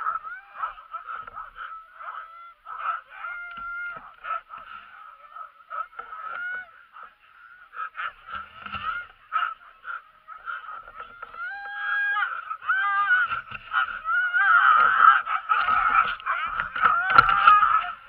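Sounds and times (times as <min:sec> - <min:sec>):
dogs whining and yelping: 0:00.0 - 0:18.0.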